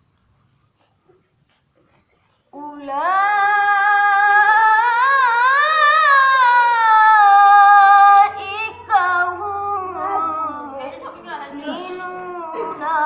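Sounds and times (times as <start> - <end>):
person chanting melodically: 2.5 - 13.0.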